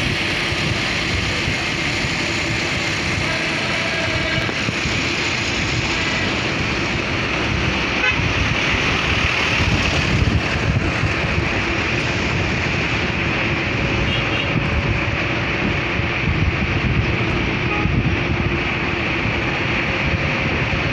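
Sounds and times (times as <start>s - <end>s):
road traffic noise from moving vehicle: 0.0s - 20.9s.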